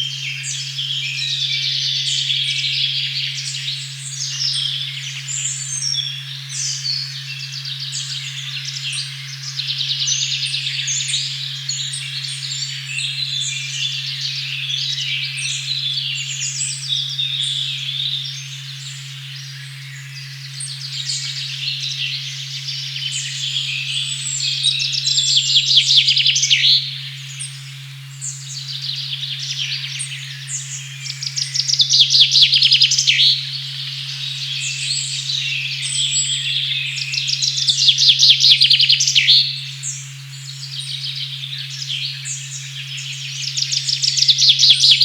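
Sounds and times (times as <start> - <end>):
birds chirping and trilling: 0.0 - 45.0
low pure tone humming: 0.0 - 45.0.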